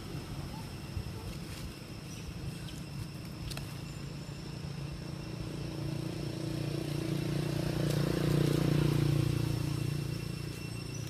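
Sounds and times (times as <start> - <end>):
high insect drone: 0.0 - 11.0
vehicle engine humming: 0.0 - 11.0.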